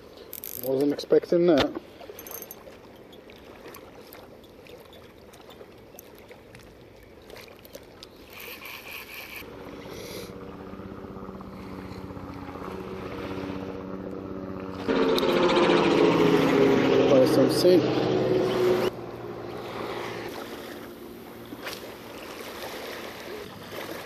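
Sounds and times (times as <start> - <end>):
motorboat engine passing: 1.8 - 24.0.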